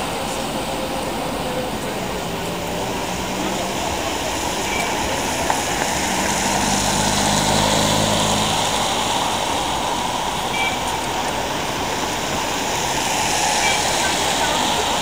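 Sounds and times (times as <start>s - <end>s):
tyres on wet asphalt: 0.0s - 15.0s
vehicle engine humming: 0.0s - 15.0s.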